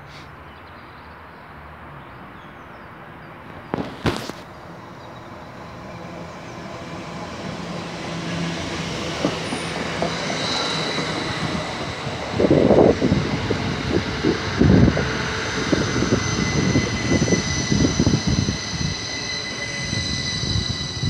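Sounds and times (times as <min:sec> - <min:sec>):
passenger train passing: 0:01.1 - 0:21.0.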